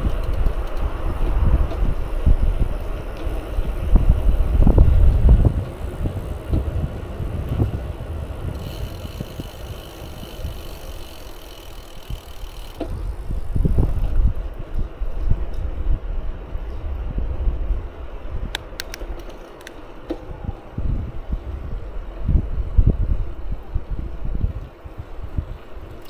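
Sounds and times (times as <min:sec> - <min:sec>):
wind buffeting microphone: 0:00.0 - 0:19.2, 0:20.1 - 0:26.0
road rumble: 0:00.0 - 0:26.0.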